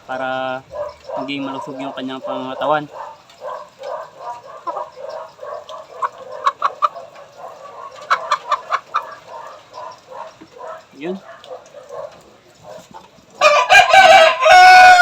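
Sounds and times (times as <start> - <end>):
chicken clucking: 0.5 - 15.0.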